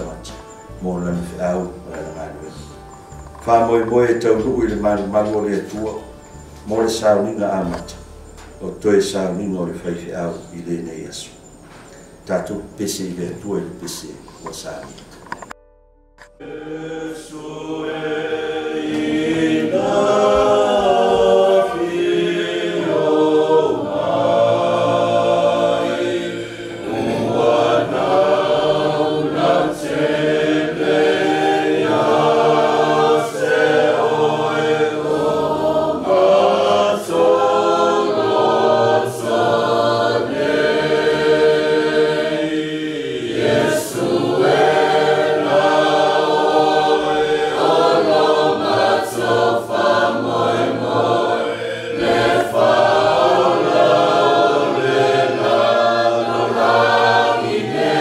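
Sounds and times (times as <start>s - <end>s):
congregation singing a hymn: 0.0s - 15.6s, 16.2s - 58.0s.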